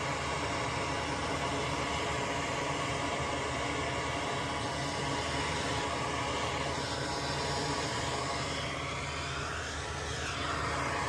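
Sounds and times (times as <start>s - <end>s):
electric fan whirring: 0.0s - 11.0s.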